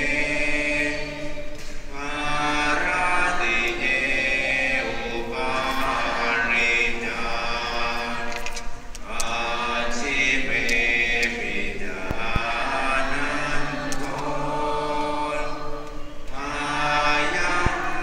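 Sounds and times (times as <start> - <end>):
group chanting prayers: 0.0 - 18.0.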